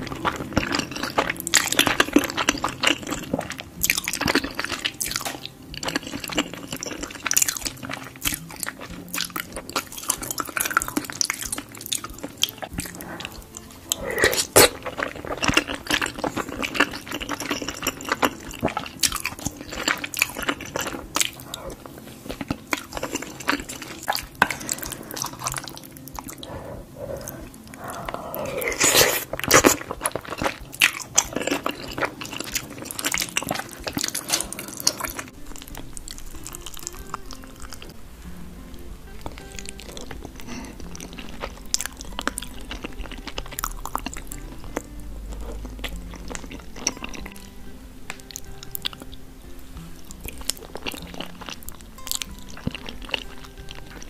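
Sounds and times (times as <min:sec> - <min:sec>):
chewing and mouth sounds: 0:00.0 - 0:38.0, 0:38.7 - 0:54.0.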